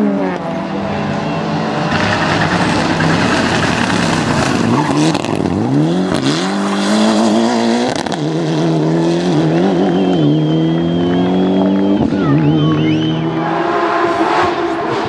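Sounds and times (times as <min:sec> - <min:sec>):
rally car engine revving: 0:00.0 - 0:15.0
tyres skidding: 0:00.2 - 0:15.0.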